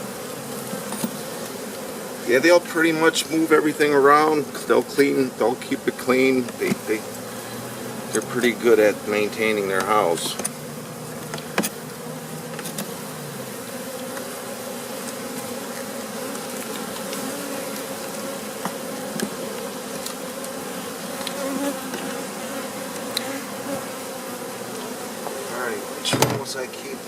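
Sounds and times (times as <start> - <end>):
honey bees buzzing: 0.0 - 27.0.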